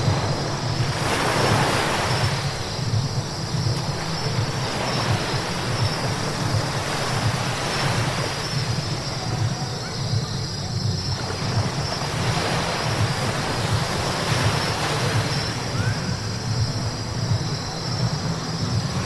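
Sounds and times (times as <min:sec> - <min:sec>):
low road rumble: 0:00.0 - 0:19.0.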